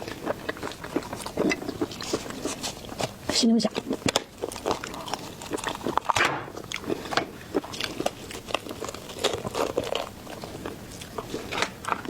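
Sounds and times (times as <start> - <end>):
wet chewing and biting: 0.0 - 12.0.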